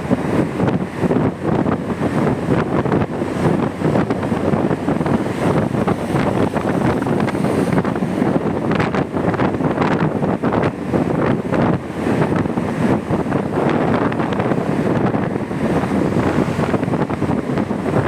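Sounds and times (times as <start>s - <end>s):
wind roaring over microphone: 0.0s - 18.0s.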